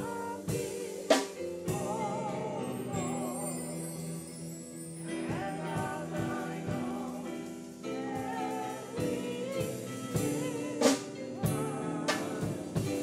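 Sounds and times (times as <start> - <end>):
drums: 0.0 - 4.2, 5.0 - 13.0
keyboard chords: 0.0 - 13.0
voices singing gospel: 0.0 - 13.0.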